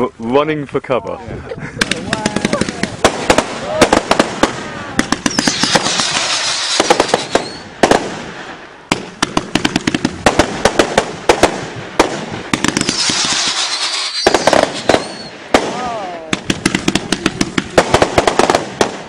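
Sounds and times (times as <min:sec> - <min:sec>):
fireworks bangs: 0:01.8 - 0:19.0
hissing crackle: 0:01.8 - 0:19.0.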